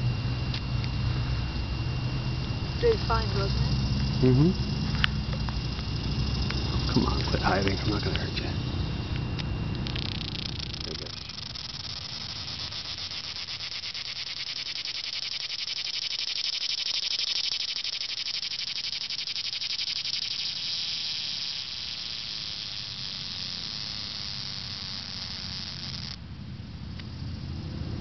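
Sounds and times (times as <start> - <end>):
cicada buzzing: 0.0 - 28.0.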